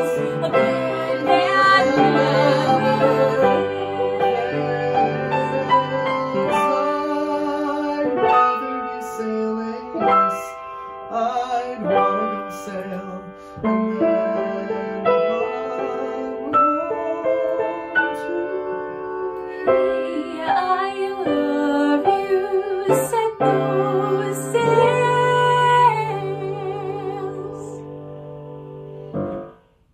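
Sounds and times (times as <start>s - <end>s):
piano playing chords: 0.0s - 29.9s.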